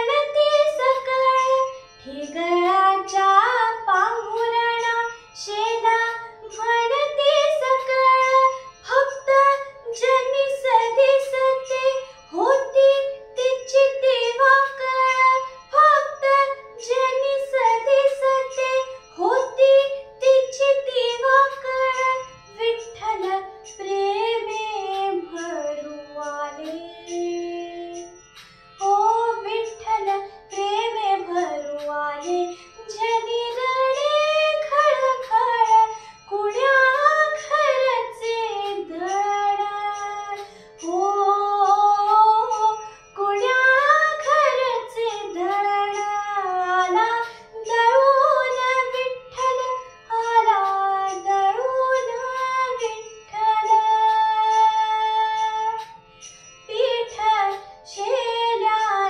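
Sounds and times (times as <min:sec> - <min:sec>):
girl singing devotional song: 0:00.0 - 0:59.0.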